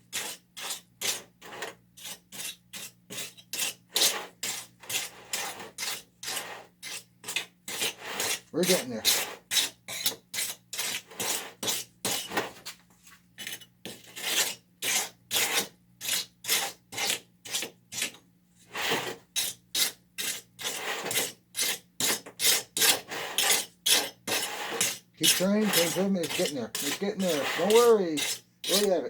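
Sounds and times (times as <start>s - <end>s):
trowel scraping wet concrete: 0.1s - 12.8s, 13.4s - 29.0s.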